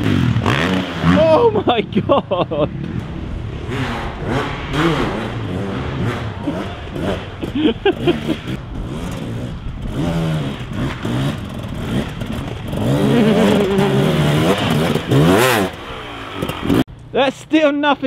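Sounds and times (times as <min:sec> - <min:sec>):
dirt bike engine revving: 0:00.0 - 0:01.7, 0:03.0 - 0:16.9.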